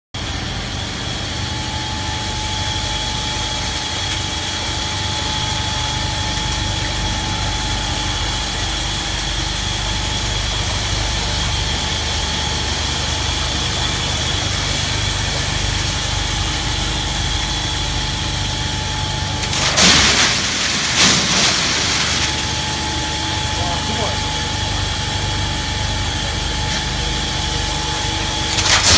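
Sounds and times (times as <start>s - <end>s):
ice machine humming and whining: 0.2s - 28.9s.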